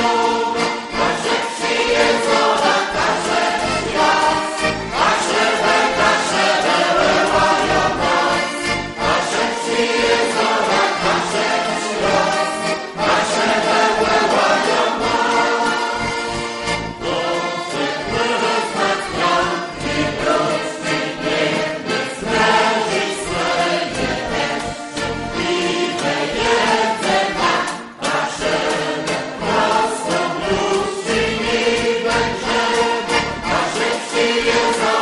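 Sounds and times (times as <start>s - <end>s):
mixed choir singing folk song: 0.0s - 35.0s.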